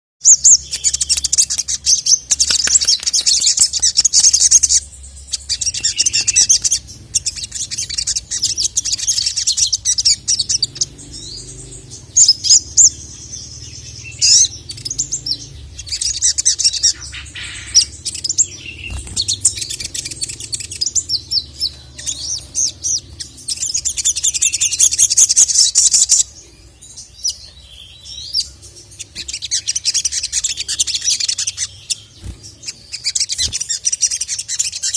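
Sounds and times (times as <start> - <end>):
sunbird twittering song: 0.2 - 34.9
faint low hum: 0.3 - 34.9.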